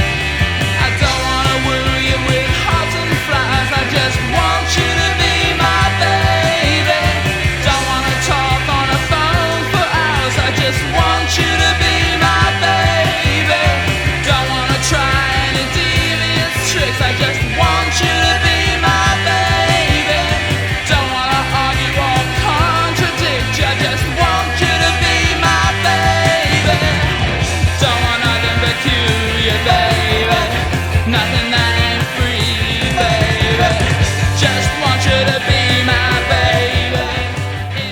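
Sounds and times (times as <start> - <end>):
loud rock music with singing: 0.0 - 37.9.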